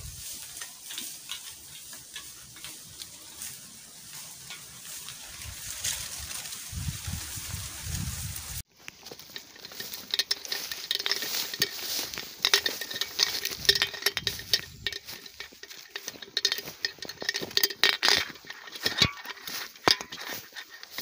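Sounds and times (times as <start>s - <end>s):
footsteps through dry straw: 0.0s - 21.0s.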